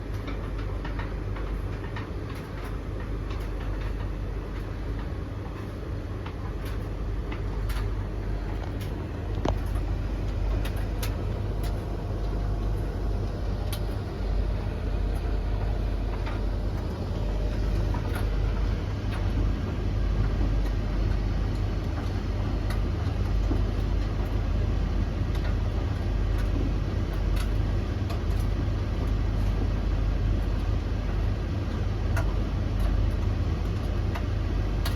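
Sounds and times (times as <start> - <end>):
tumble dryers rumbling: 0.0 - 34.9.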